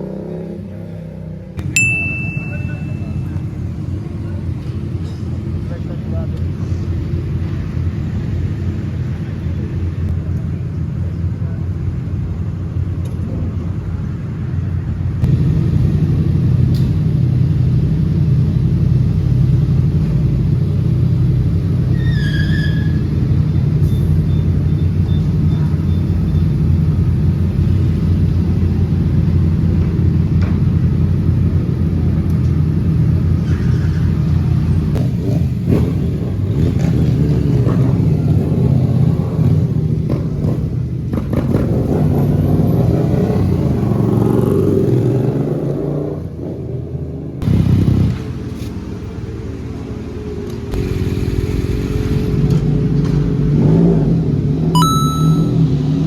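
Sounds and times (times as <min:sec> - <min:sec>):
motorcycle engines revving: 0:00.0 - 0:54.8.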